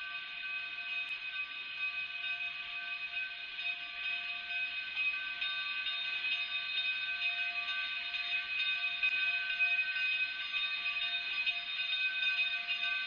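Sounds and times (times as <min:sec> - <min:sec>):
steam train rolling slowly: 0:00.0 - 0:13.0.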